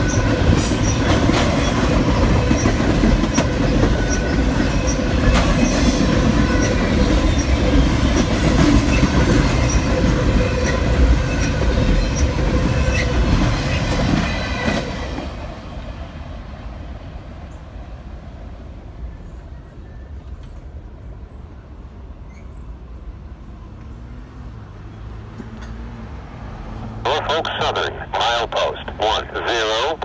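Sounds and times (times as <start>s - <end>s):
freight train rolling on rails: 0.0s - 26.6s.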